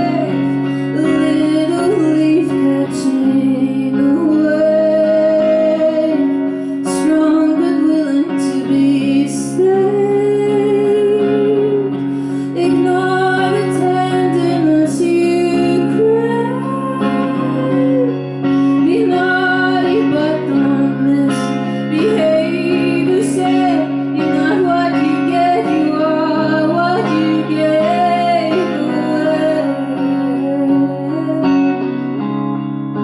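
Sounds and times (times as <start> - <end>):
woman singing: 0.0 - 32.4
sustained guitar chords: 0.0 - 33.0.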